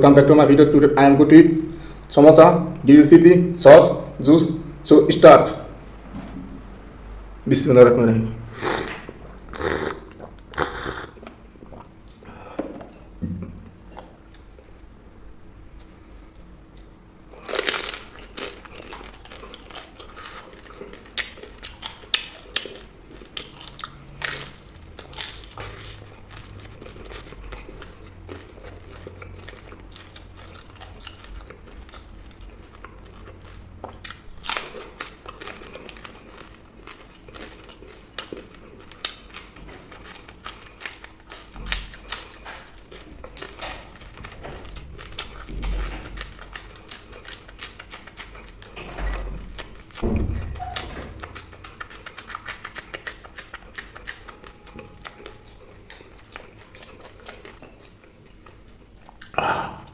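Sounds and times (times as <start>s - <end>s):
person chewing crunchy food: 8.6s - 13.2s, 15.8s - 59.9s.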